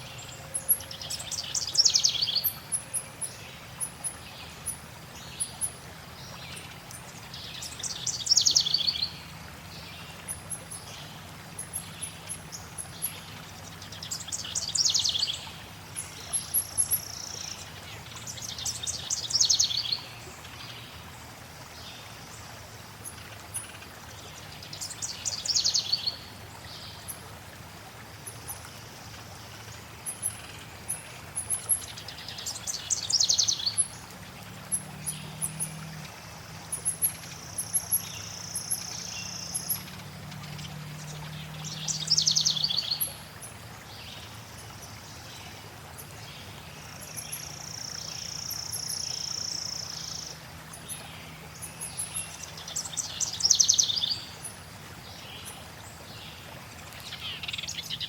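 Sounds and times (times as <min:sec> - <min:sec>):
flowing water: 0:00.0 - 0:58.0.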